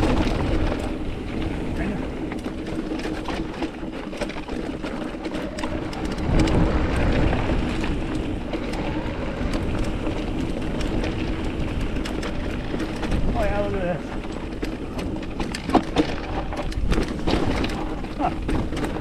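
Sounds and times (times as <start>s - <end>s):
mountain bike on rocky trail: 0.0s - 19.0s.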